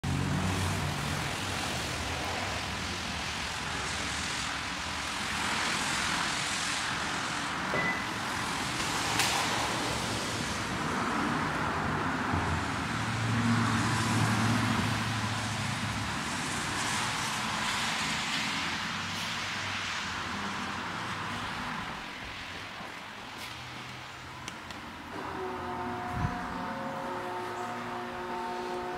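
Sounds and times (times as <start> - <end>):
traffic noise: 0.0 - 28.9
tyre hiss on wet road: 0.1 - 24.0.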